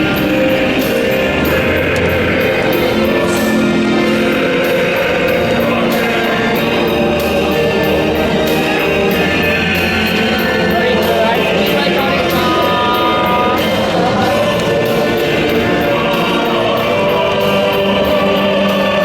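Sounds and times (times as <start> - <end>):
brass band playing cheering tune: 0.0 - 19.0
steady drum beat: 0.0 - 19.0.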